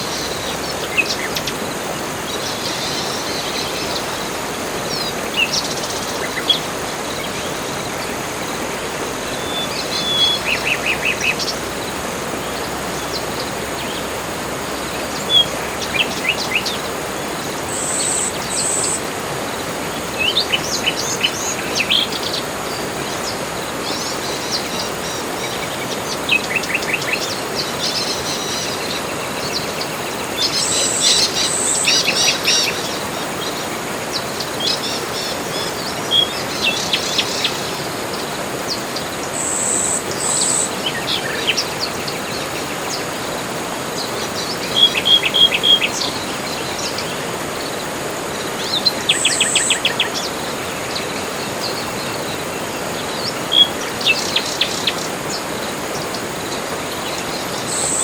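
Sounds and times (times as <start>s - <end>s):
background hiss: 0.0s - 58.0s
birds chirping and trilling: 0.0s - 58.0s.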